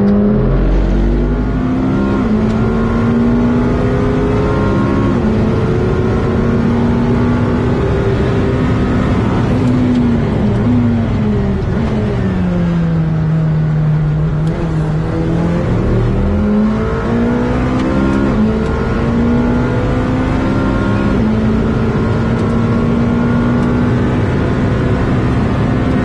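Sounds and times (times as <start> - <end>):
supercar engine accelerating: 0.0 - 26.0.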